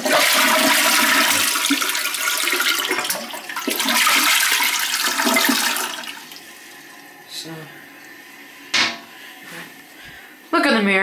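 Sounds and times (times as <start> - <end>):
toilet flushing: 0.0 - 9.2.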